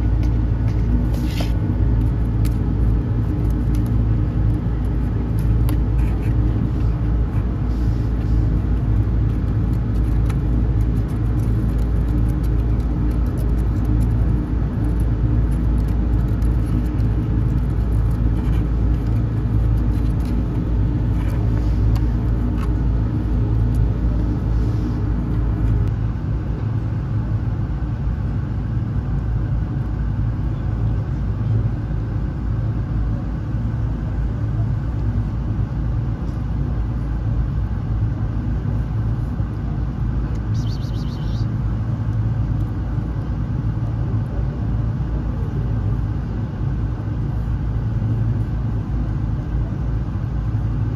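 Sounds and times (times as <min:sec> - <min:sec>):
low mechanical rumble: 0:00.0 - 0:50.9.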